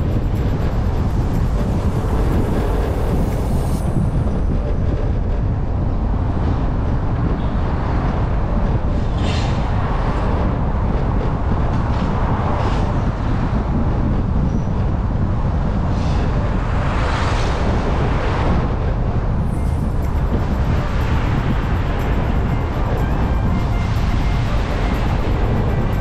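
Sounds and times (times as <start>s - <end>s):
passing vehicles hissing: 0.0s - 26.0s
traffic rumble: 0.0s - 26.0s.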